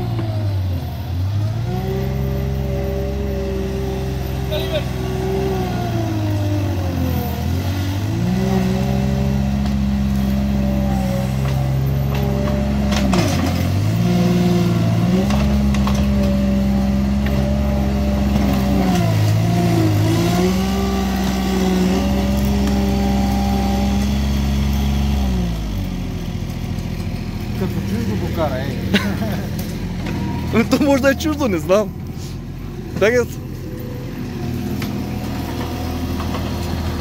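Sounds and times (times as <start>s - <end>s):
diesel engine working hard: 0.0s - 37.0s.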